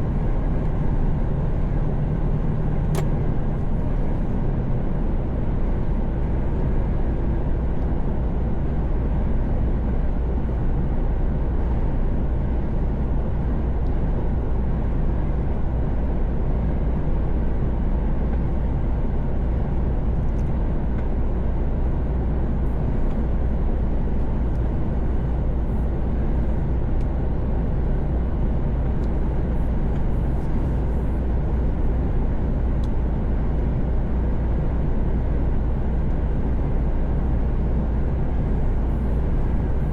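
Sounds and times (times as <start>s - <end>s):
truck engine and tyre drone: 0.0s - 39.9s.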